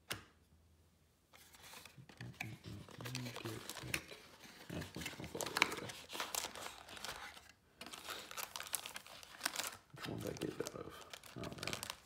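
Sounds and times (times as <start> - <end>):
plastic foil wrapper crinkling: 1.4 - 12.0.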